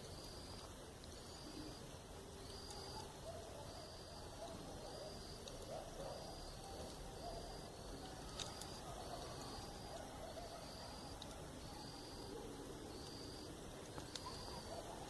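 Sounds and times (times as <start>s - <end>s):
campfire crackling: 0.0s - 15.0s
insect chirping: 0.0s - 15.0s.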